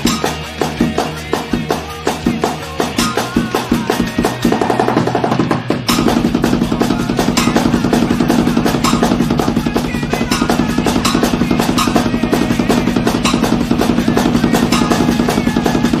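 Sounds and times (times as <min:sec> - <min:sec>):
drum kit played fast: 0:00.0 - 0:16.0.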